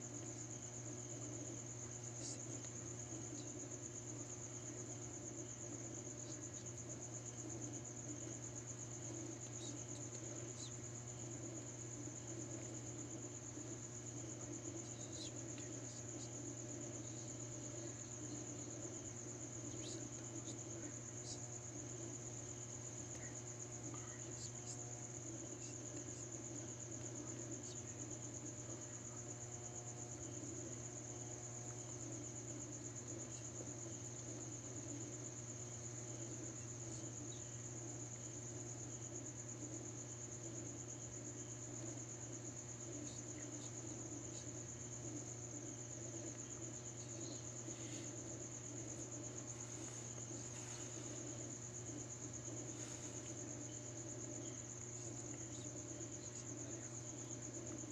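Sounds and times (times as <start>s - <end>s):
crickets trilling: 0.0s - 57.9s
steady low hum: 0.0s - 57.9s.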